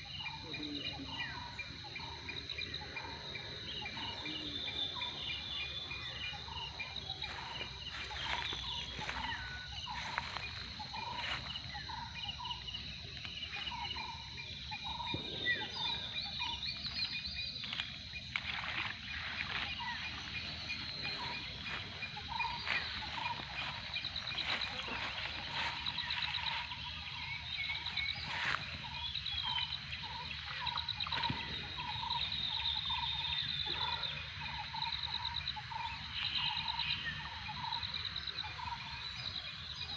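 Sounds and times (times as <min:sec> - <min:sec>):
bird calls: 0:00.0 - 0:39.9
insects trilling: 0:00.0 - 0:39.9.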